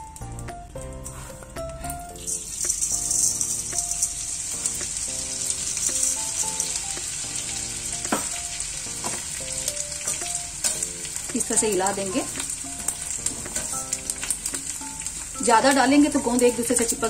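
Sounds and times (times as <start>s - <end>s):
gum sizzling in hot fat: 0.0s - 17.0s
soft melodic background music: 0.0s - 17.0s.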